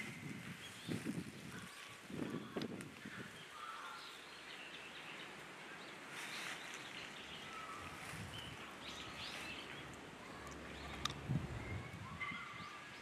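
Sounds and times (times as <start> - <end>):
faint bird calls: 0.0 - 13.0
wind gusting through trees: 0.0 - 13.0.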